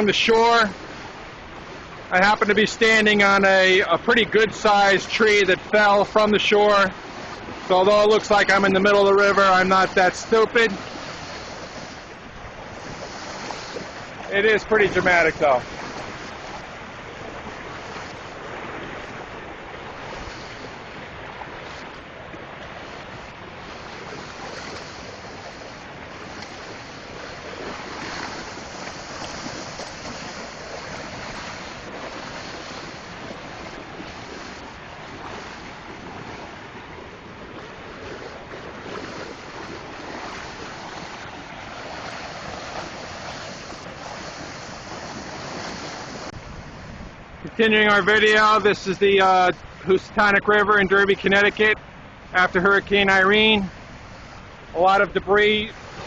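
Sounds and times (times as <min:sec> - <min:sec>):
fast-flowing river rushing: 0:00.0 - 0:56.0.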